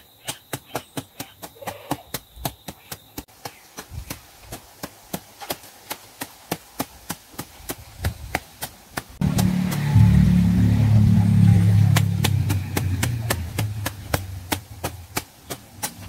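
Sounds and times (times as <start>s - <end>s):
machete chopping grass: 0.2s - 10.1s, 11.8s - 16.0s.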